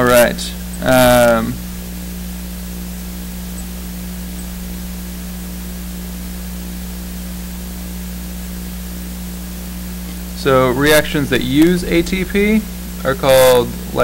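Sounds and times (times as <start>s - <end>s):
electrical hum: 0.0s - 14.0s
static hiss: 0.0s - 14.0s.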